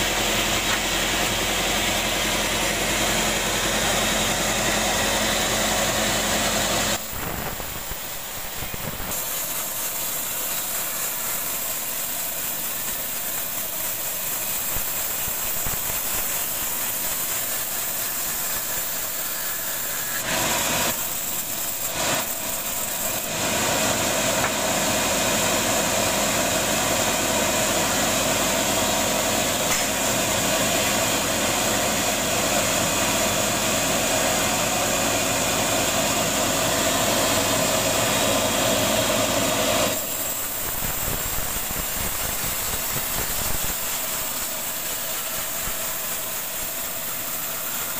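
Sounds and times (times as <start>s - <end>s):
bandsaw mill sawing a log: 0.0s - 47.9s.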